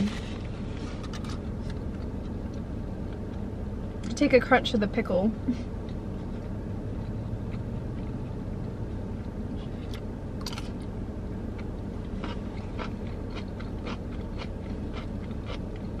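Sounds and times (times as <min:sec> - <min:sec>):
steady low hum: 0:00.0 - 0:16.0
crunchy pickle chewing: 0:01.0 - 0:04.2, 0:05.8 - 0:16.0.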